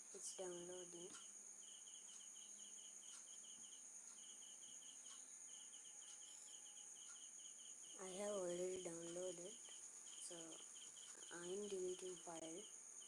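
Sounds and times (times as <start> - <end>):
cricket chirping: 0.0 - 13.0
high-pitched insect whine: 0.0 - 13.0.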